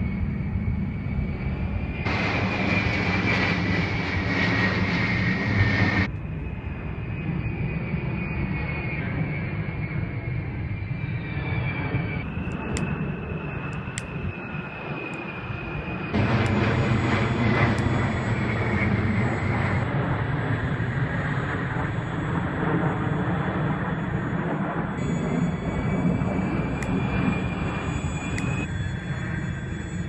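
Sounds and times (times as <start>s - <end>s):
military aircraft flying low: 0.0s - 30.0s.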